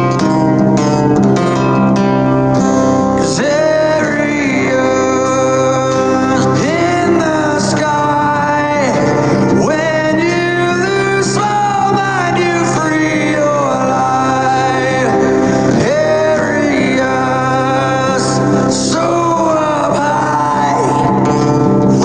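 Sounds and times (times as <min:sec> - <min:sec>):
country guitar music: 0:00.0 - 0:22.0
man singing: 0:03.1 - 0:22.0.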